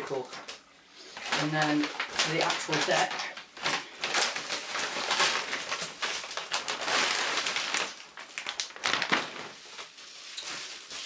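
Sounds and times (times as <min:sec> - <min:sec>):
plastic and bubble wrap crinkling: 0:00.0 - 0:11.0
sharp crackles: 0:01.2 - 0:11.0.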